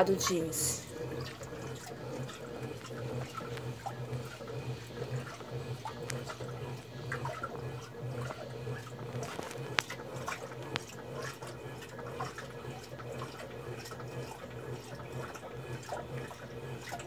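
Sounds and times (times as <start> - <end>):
washing machine hum: 0.0 - 17.0
water splashing in washing machine: 0.0 - 17.0
small clicks and drips: 0.9 - 17.0.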